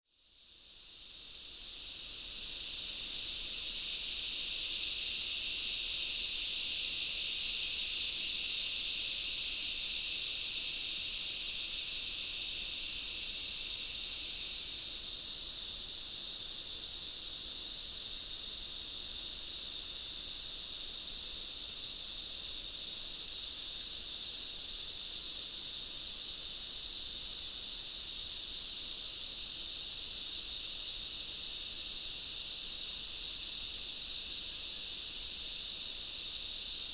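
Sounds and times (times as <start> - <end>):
insect chorus high-pitched drone: 0.1 - 36.9.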